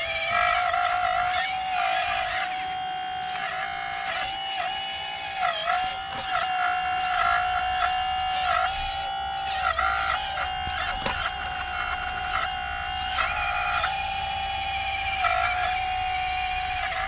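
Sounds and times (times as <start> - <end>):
hydraulic pump motor whining: 0.0 - 17.0
motors and valves whirring: 0.0 - 17.0.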